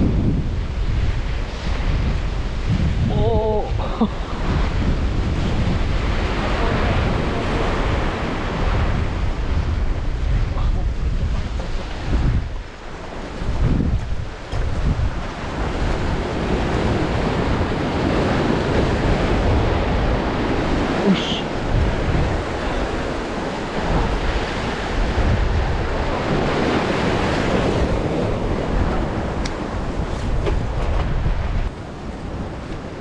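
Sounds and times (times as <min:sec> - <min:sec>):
surf breaking on rocks: 0:00.0 - 0:33.0
wind buffeting microphone: 0:00.0 - 0:33.0.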